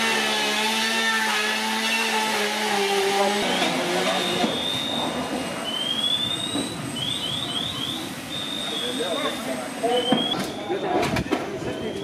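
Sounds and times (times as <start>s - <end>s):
fire engines and pumps running: 0.0s - 12.0s.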